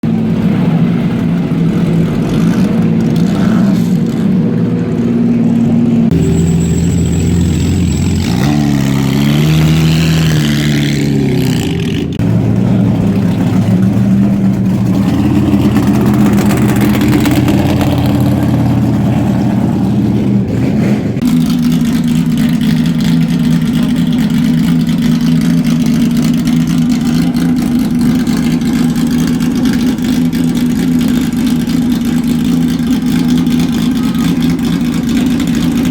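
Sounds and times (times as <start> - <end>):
racing car engines revving: 0.0 - 35.9.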